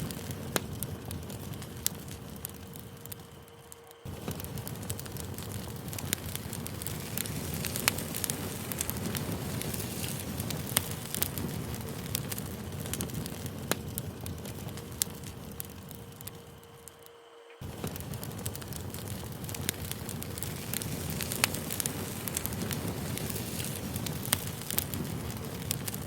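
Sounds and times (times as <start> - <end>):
campfire flames rushing: 0.0 - 26.0
fire popping and crackling: 0.0 - 26.0.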